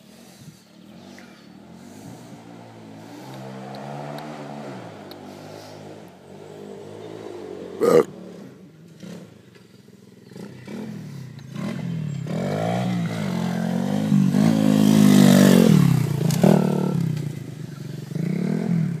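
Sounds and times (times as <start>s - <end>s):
small motorbike engine revving: 0.0s - 9.6s, 10.2s - 19.0s.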